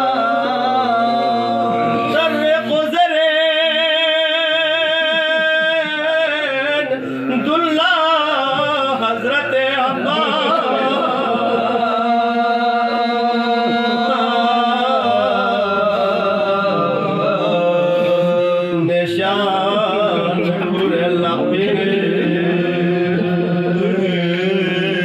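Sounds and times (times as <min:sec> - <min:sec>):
man chanting unaccompanied: 0:00.0 - 0:25.0.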